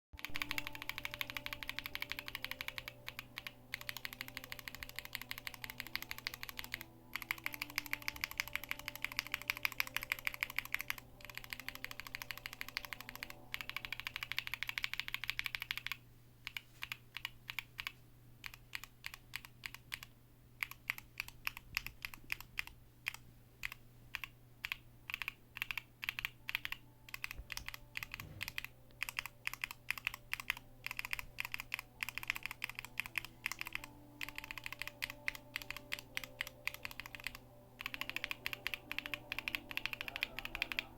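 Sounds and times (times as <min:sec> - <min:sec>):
mechanical keyboard typing: 0:00.2 - 0:40.9.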